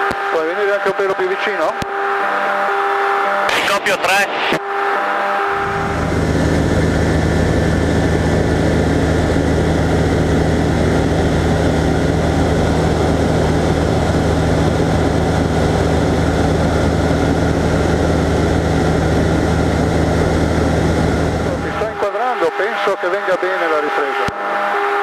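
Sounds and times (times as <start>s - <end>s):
aircraft engine drone: 0.0s - 25.0s.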